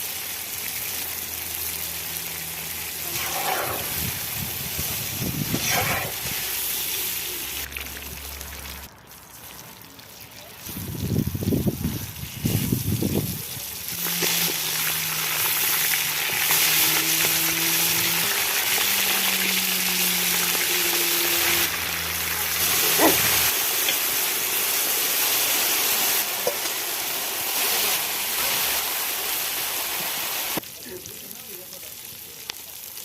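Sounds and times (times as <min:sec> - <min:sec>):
meat sizzling in hot fat: 0:00.0 - 0:33.0.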